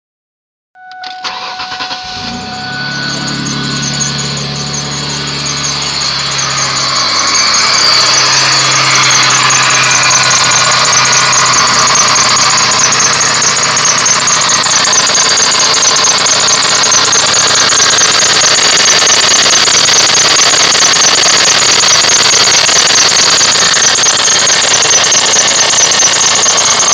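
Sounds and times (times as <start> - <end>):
rapid rhythmic engine squeak: 1.0 - 26.9
car engine idling: 1.2 - 26.9.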